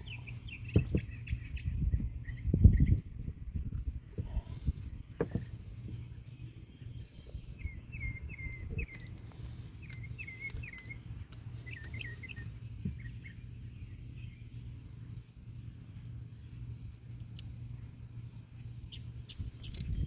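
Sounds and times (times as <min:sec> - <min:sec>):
bird chirping: 0:00.0 - 0:03.3, 0:04.2 - 0:20.0
low steady hum: 0:00.0 - 0:20.0.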